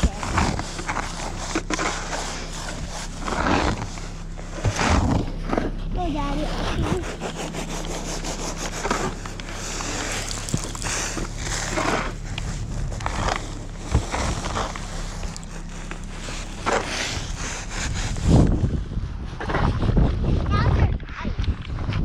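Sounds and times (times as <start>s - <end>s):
snow shovel scraping snow: 0.0s - 20.8s
low hum: 0.0s - 22.0s.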